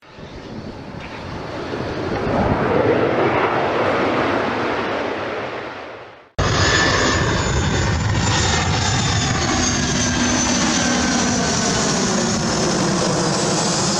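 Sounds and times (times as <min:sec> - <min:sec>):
airplane engine: 0:00.0 - 0:13.9.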